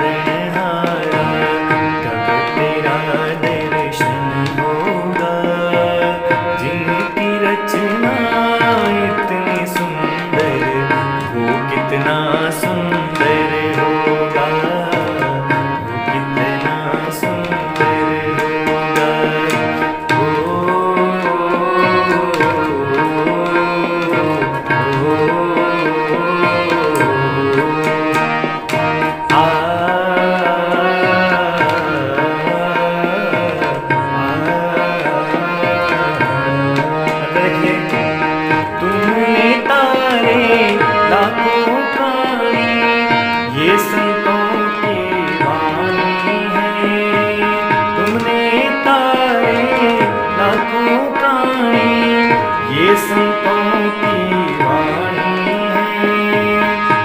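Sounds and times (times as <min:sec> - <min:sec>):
harmonium melody: 0:00.0 - 0:57.0
tabla rhythm: 0:00.0 - 0:57.0.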